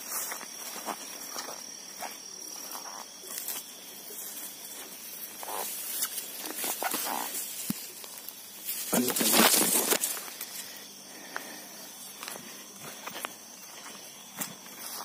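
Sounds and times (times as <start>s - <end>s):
footsteps in long grass: 0.0s - 15.0s
high-pitched insect drone: 0.0s - 15.0s.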